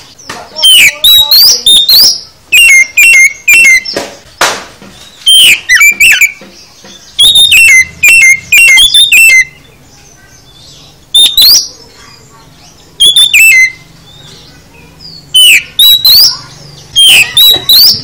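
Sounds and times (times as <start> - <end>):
bird singing whistled notes: 0.0 - 4.1, 5.0 - 18.0.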